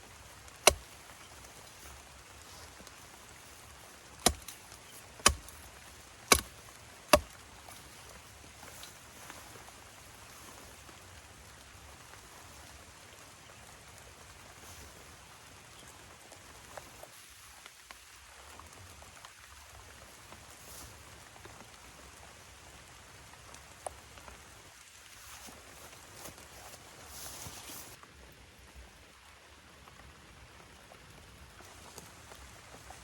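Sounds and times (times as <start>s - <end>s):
soft outdoor hiss: 0.0s - 33.0s.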